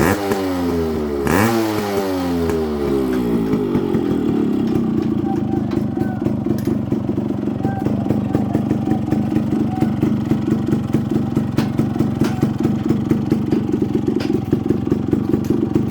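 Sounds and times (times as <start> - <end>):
engine idling: 2.3 - 15.9.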